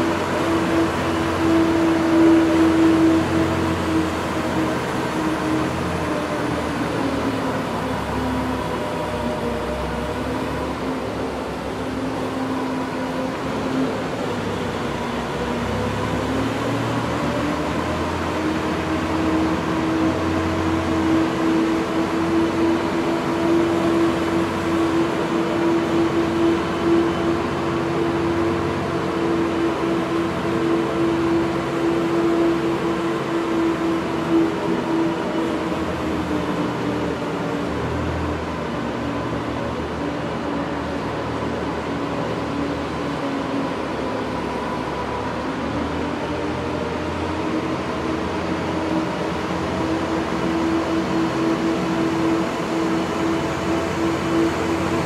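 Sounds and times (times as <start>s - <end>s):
constant noisy wash: 0.0s - 55.0s
ice resurfacer engine humming: 0.0s - 55.0s.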